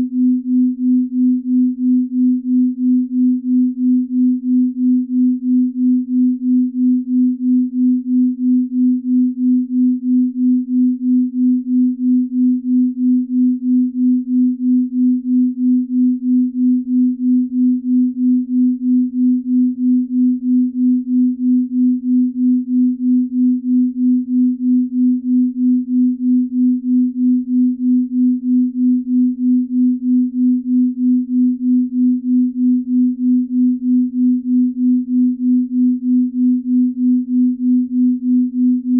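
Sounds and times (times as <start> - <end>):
pulsing low sine tone: 0.0 - 38.9.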